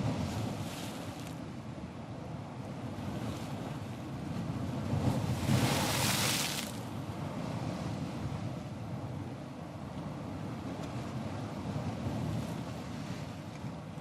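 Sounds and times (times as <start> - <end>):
low rumble of waves: 0.0 - 14.0.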